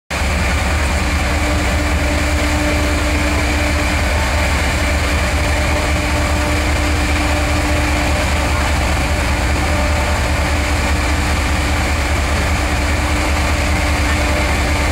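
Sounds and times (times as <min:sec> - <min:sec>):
diesel locomotive engine rumbling: 0:00.1 - 0:14.9.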